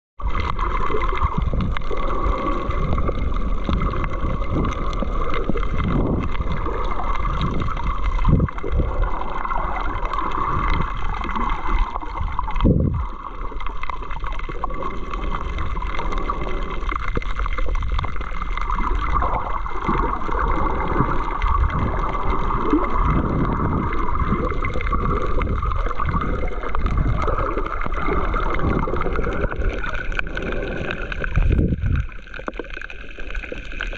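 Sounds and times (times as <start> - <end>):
low underwater rumble: 0.2 - 33.9
underwater sloshing and gurgling: 0.2 - 33.9.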